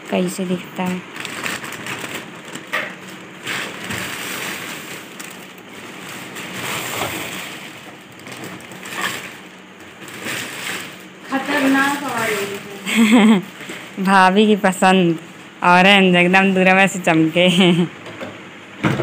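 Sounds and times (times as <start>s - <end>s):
plastic wrapping crinkling: 0.1s - 15.8s.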